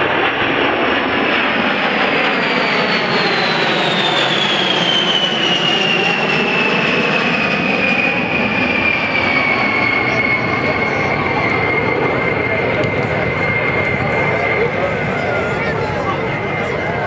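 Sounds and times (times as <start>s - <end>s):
jet bomber flyby: 0.0s - 17.0s.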